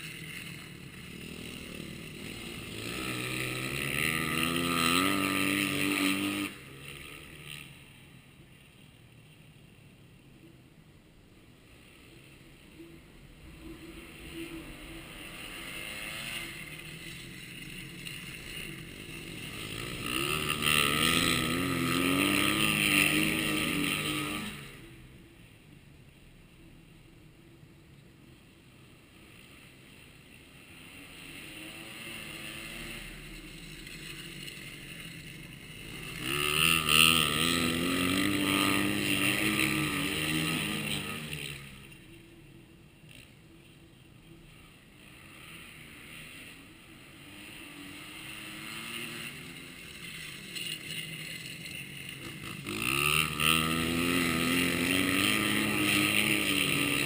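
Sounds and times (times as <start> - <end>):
motorcycles racing past: 0.0 - 9.4, 11.6 - 25.6, 29.0 - 57.0.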